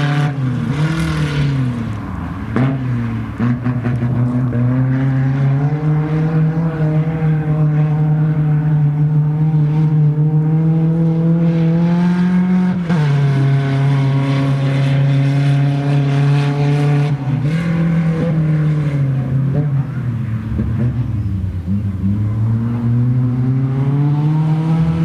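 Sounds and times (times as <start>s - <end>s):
race car engine running: 0.2s - 25.0s.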